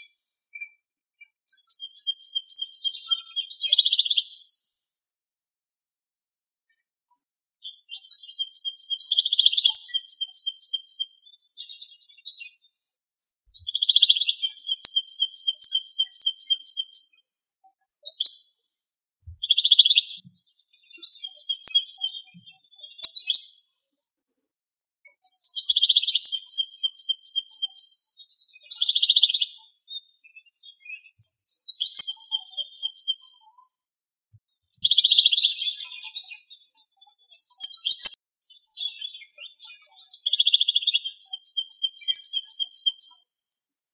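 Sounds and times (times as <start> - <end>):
goldfinch twittering song: 1.5 - 4.8, 7.6 - 12.8, 13.5 - 18.7, 19.3 - 23.8, 25.2 - 33.5, 34.8 - 43.9.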